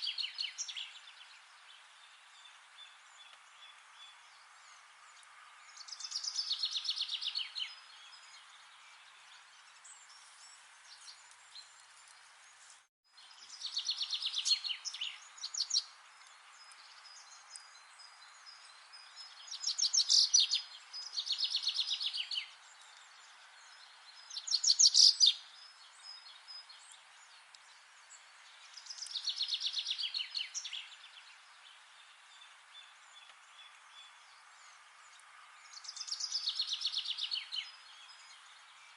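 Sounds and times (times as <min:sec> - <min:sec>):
faint hiss: 0:00.0 - 0:38.9.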